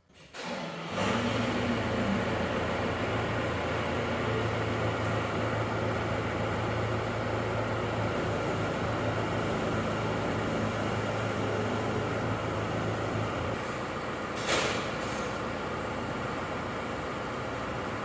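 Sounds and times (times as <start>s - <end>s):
vehicle engine humming: 0.9s - 18.0s.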